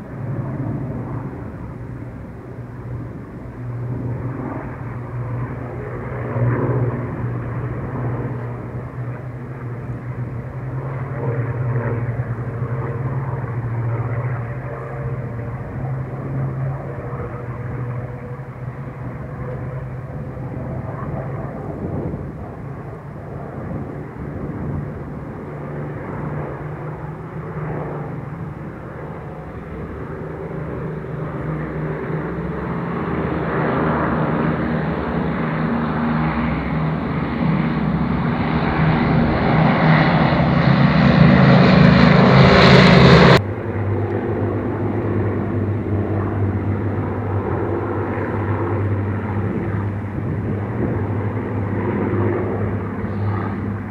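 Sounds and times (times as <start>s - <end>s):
propeller plane engines droning: 0.0s - 53.9s.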